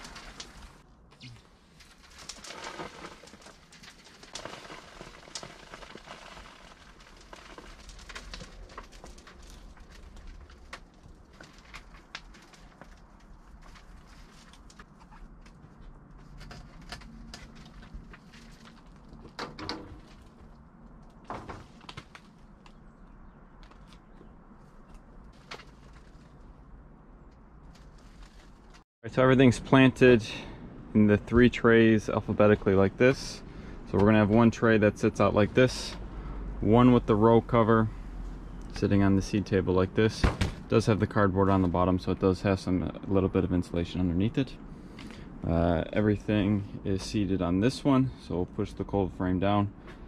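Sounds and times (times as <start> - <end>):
soil rustling: 0.0 - 43.2.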